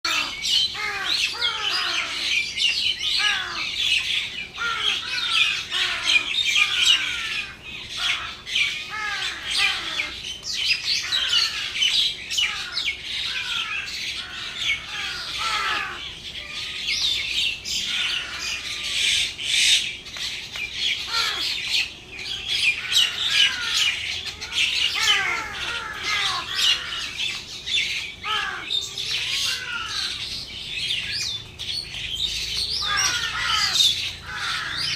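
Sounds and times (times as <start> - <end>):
flock of birds chirping: 0.0 - 34.9.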